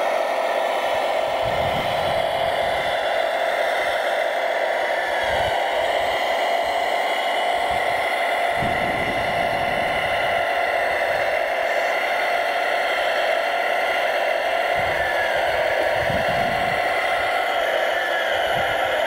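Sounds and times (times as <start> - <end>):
model loader motors whirring: 0.0 - 19.0.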